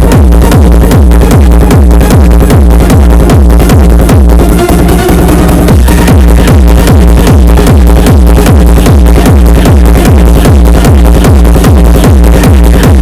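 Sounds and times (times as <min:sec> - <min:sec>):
deep kick drum thuds: 0:00.0 - 0:05.0, 0:05.6 - 0:13.0
electronic dance music: 0:00.0 - 0:13.0.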